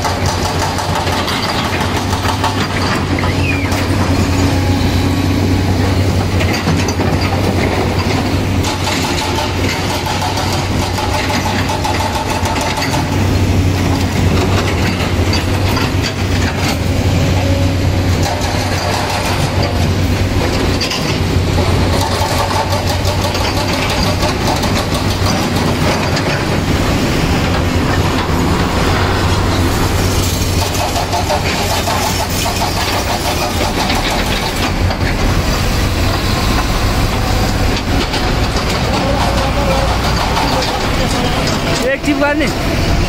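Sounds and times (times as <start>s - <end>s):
diesel engine running: 0.0s - 43.0s
cab rattling: 5.7s - 43.0s.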